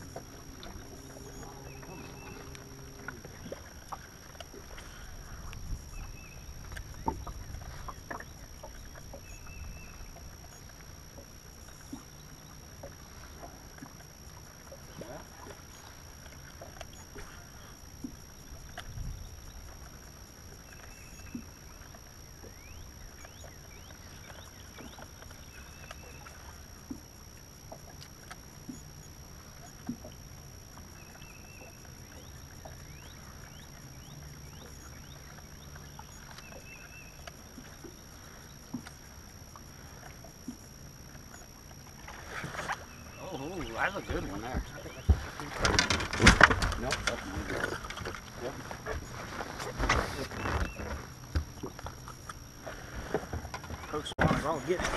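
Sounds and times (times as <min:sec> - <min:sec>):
faint thin steady whine: 0:00.0 - 0:54.9
wind and water against hull: 0:00.0 - 0:54.9.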